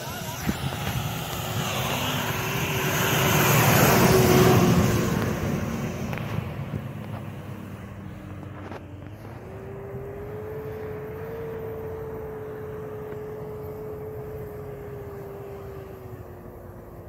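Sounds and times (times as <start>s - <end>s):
engine working hard: 0.0s - 17.0s
tyres spinning in snow: 0.0s - 17.0s.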